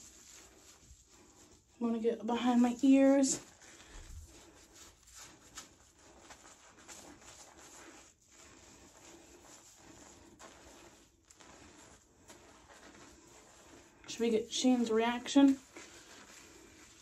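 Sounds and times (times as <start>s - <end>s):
fingertips scrubbing lathered hair: 0.0s - 17.0s.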